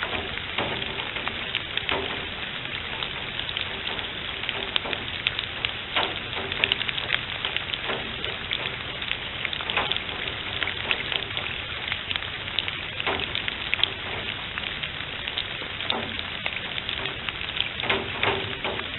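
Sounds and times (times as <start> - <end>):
rain falling: 0.0 - 18.9
sharp raindrop ticks: 0.0 - 18.9.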